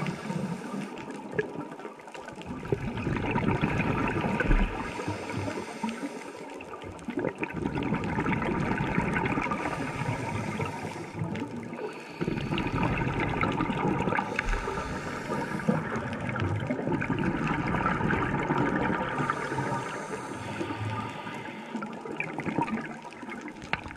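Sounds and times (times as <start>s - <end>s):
underwater rush and gurgle: 0.0s - 23.9s.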